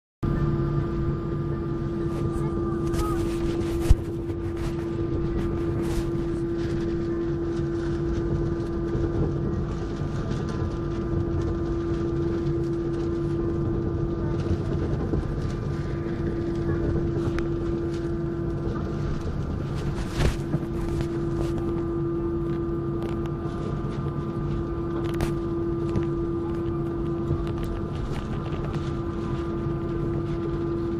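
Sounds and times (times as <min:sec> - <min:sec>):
airliner cabin whine: 0:00.2 - 0:30.9
even rumble: 0:00.9 - 0:30.9.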